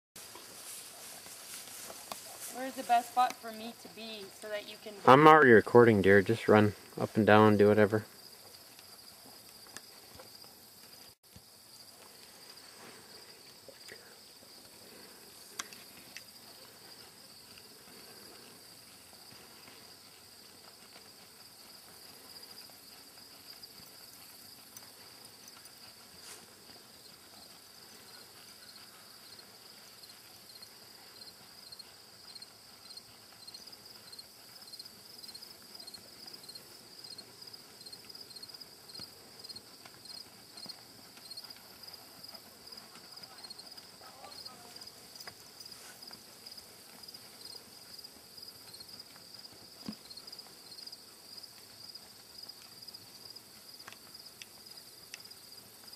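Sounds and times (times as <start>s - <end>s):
insects trilling: 0.5s - 55.9s.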